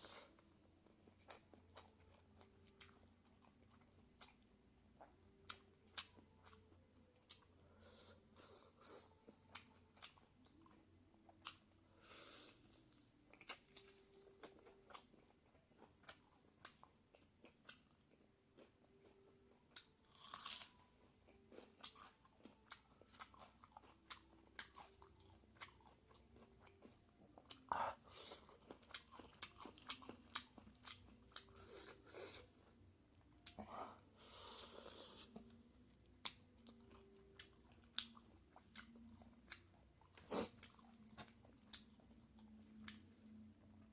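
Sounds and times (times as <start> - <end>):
close-miked chewing and crunching: 0.0 - 43.9.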